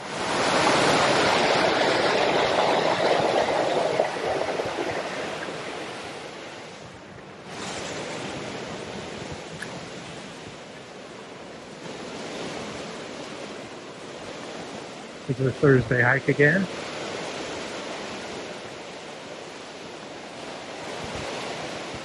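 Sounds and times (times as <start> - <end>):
creek water over rocks: 0.0 - 22.0.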